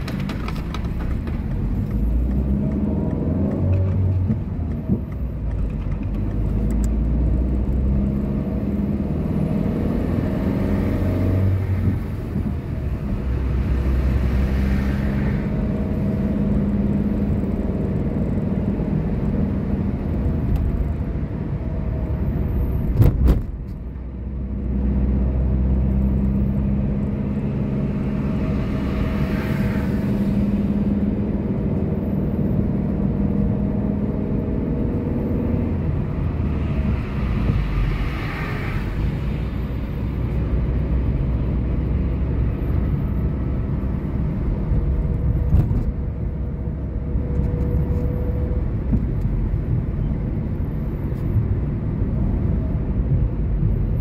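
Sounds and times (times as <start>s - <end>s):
car interior road noise: 0.0s - 54.0s.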